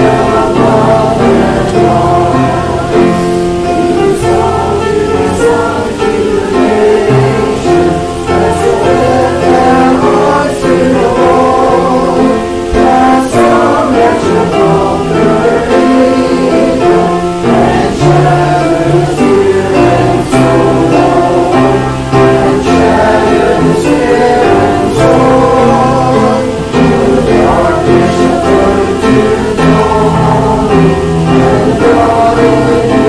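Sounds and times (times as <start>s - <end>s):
accompanying instruments: 0.0s - 33.0s
congregation singing a hymn: 0.0s - 33.0s.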